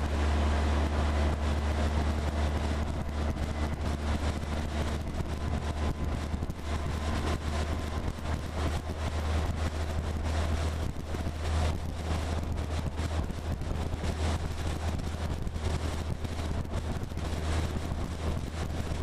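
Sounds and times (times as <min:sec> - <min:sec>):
engine hum: 0:00.0 - 0:19.0
wind buffeting microphone: 0:00.0 - 0:19.0.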